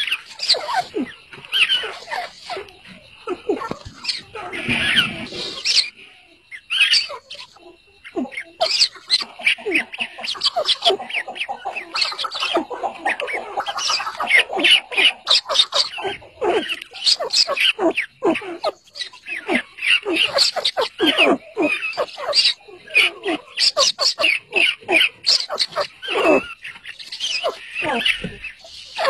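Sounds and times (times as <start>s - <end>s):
partridge chicks and hen chirping: 0.0s - 29.0s.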